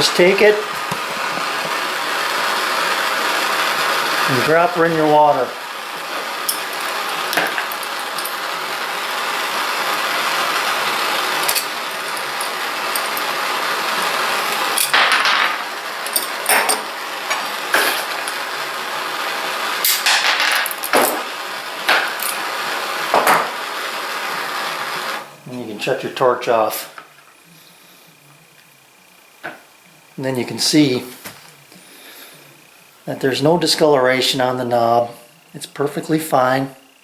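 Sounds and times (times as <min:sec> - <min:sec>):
gas torch hissing: 0:00.0 - 0:37.0.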